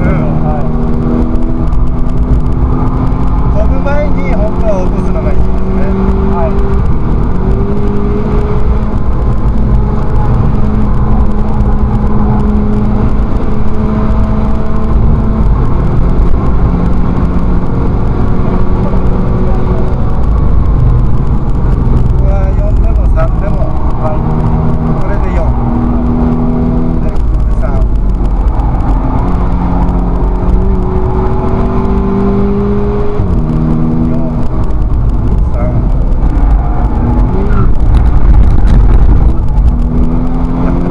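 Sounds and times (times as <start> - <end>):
race car engine running hard: 0.0 - 40.9
road and wind rumble: 0.0 - 40.9.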